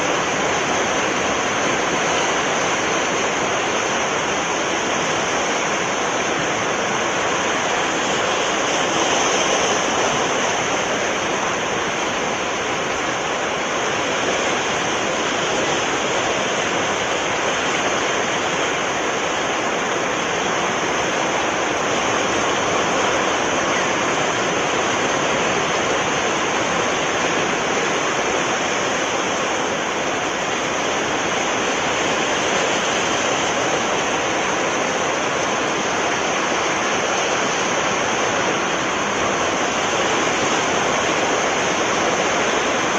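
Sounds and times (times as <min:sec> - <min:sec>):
sea surf washing in: 0:00.0 - 0:42.9.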